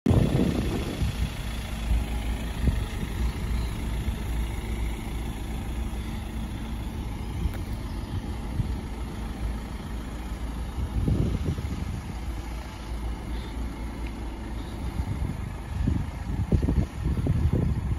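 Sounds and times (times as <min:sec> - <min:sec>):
diesel engine idling: 0:00.1 - 0:17.9.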